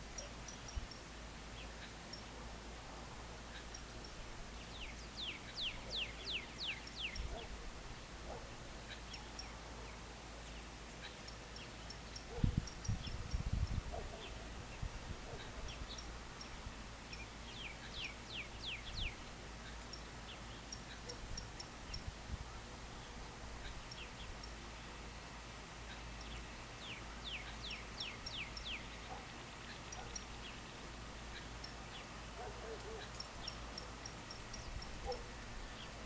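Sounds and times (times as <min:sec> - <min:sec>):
birds chirping and calling: 0:00.0 - 0:02.5, 0:03.4 - 0:22.2, 0:22.9 - 0:24.9, 0:25.7 - 0:36.0
steady background hiss: 0:00.0 - 0:36.0.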